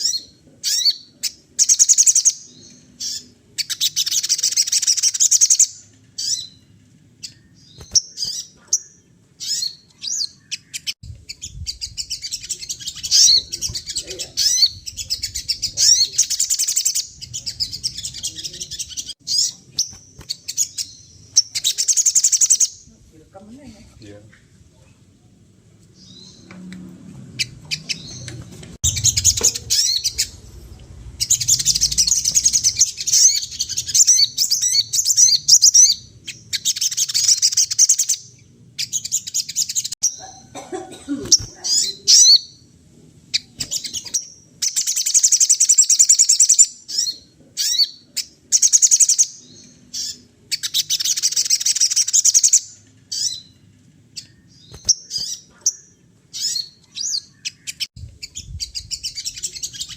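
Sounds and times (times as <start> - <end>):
songbird twittering: 0.0 - 22.9, 27.4 - 40.5, 43.3 - 59.9.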